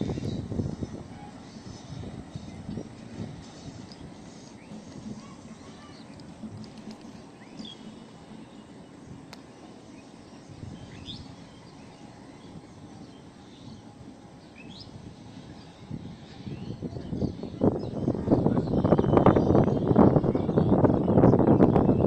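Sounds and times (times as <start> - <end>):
distant train rumble: 0.0 - 22.0.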